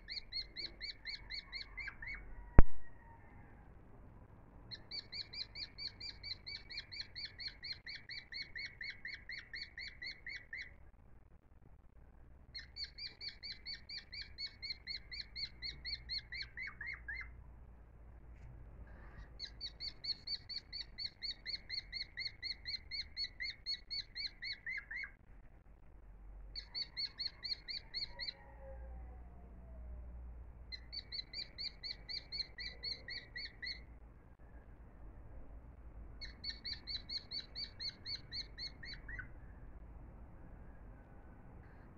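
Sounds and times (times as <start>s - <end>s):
songbird chirping trills: 0.0s - 3.5s, 4.2s - 11.0s, 12.0s - 17.4s, 18.9s - 34.6s, 36.1s - 41.9s
faint low hum: 0.0s - 41.9s.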